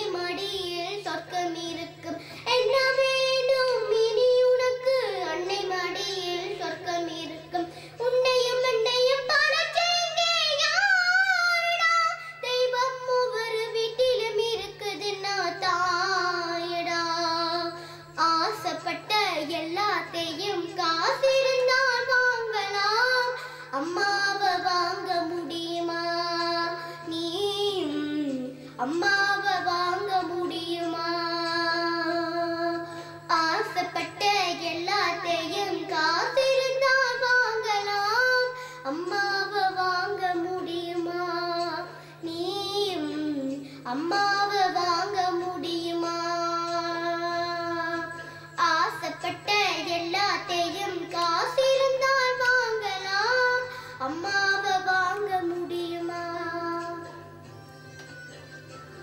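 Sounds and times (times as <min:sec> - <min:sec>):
girl singing into a microphone: 0:00.0 - 0:57.4
steady low hum: 0:00.0 - 0:57.7.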